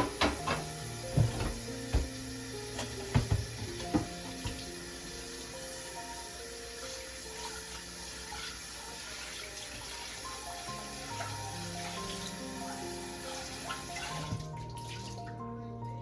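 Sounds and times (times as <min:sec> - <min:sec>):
tap water running into sink: 0:00.0 - 0:15.4
soft background music: 0:00.0 - 0:16.0.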